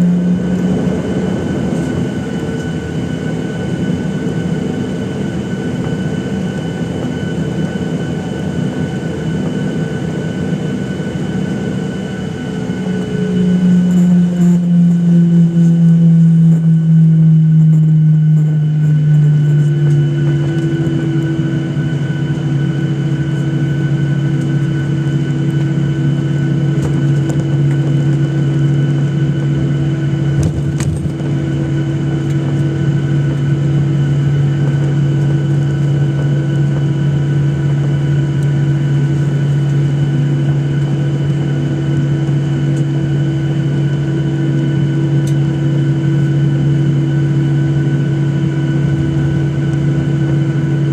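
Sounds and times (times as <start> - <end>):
jet engine hum in cabin: 0.0 - 50.9.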